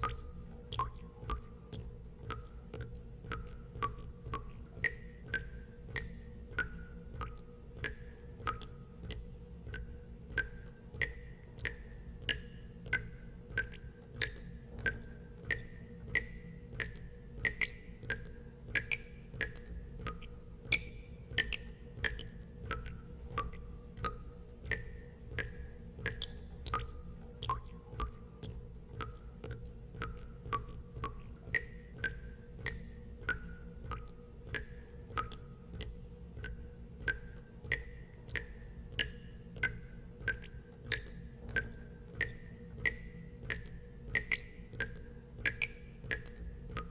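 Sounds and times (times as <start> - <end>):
steady low hum: 0.0 - 46.9
water drops plinking into water: 0.0 - 46.9.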